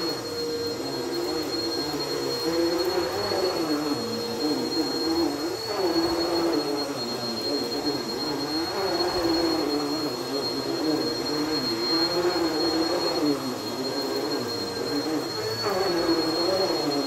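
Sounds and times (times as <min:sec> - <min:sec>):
high whine: 0:00.0 - 0:17.0
vacuum cleaner running: 0:00.0 - 0:17.0.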